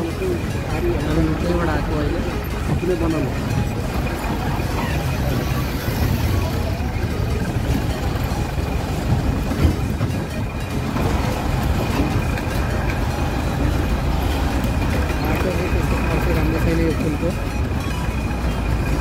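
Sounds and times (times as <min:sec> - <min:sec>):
bus engine rumble: 0:00.0 - 0:19.0
road noise: 0:00.0 - 0:19.0.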